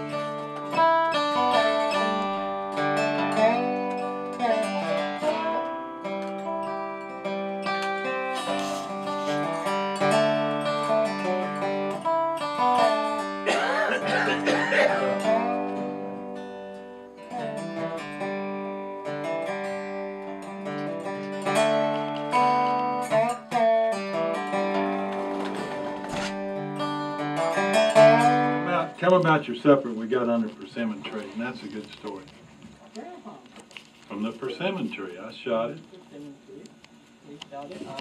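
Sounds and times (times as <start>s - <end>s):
slide guitar playing: 0.0s - 37.0s.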